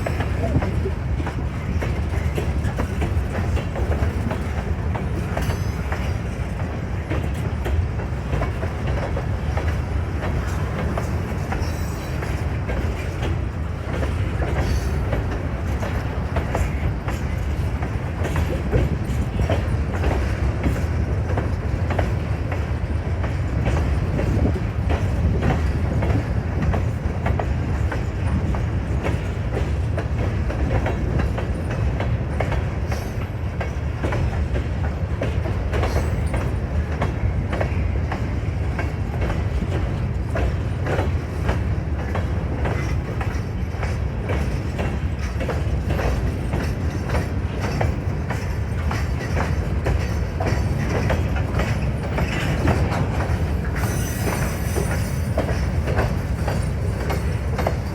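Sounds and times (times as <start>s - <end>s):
freight train rumble: 0.0s - 57.9s
wheels clacking over rail joints: 0.0s - 57.9s.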